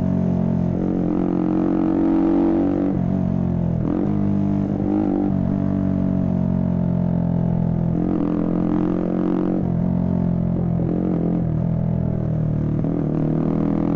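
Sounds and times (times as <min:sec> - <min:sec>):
motorcycle engine droning: 0:00.0 - 0:13.9.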